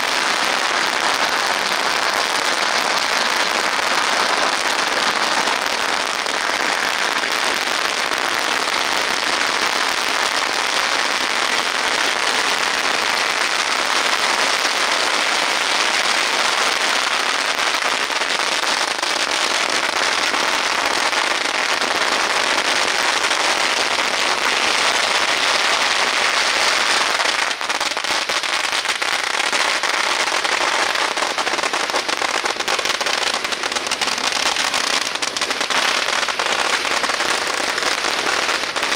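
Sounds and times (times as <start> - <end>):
firecrackers crackling: 0.0 - 38.9.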